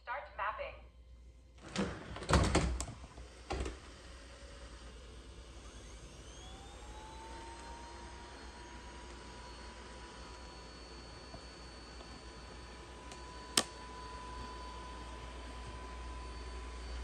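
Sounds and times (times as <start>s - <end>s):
suction fan whirring: 1.6s - 17.0s.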